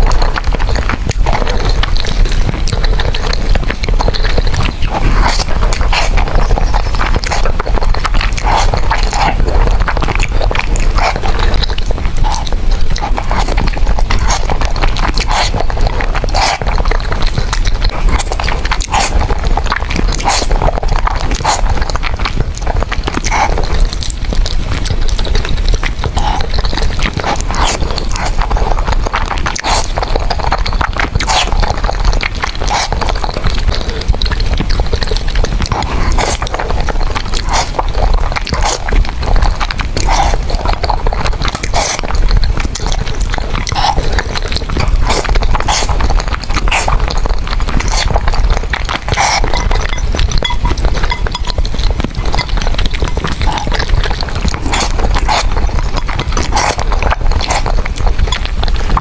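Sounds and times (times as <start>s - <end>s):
chewing with mouth clicks: 0.0s - 59.0s.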